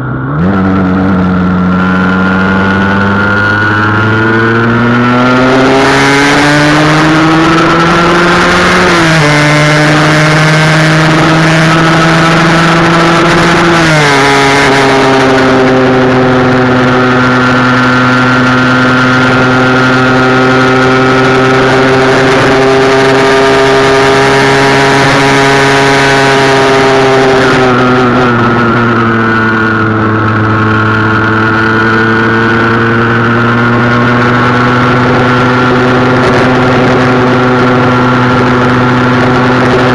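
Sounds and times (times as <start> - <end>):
two-stroke motorcycle engine: 0.0 - 39.9.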